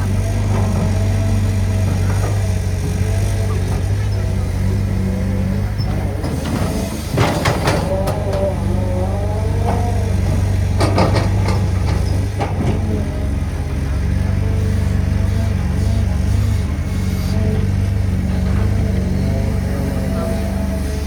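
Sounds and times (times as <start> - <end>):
diesel engine running: 0.0 - 21.0
excavator clattering and scraping: 0.0 - 21.0.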